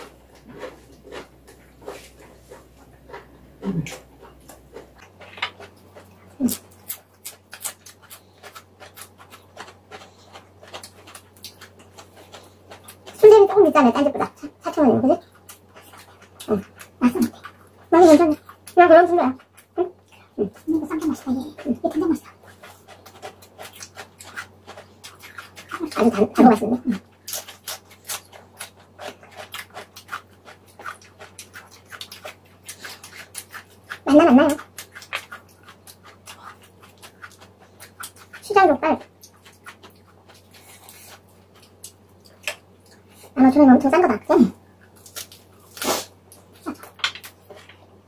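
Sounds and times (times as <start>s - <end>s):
chewing with wet mouth clicks: 0.0s - 43.4s.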